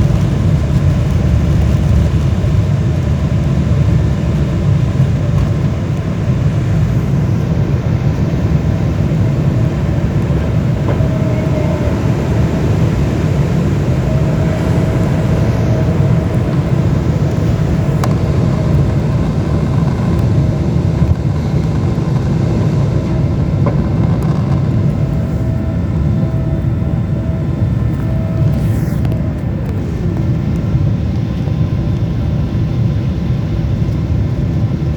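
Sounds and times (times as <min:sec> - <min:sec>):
airliner engines rumbling in cabin: 0:00.0 - 0:34.9.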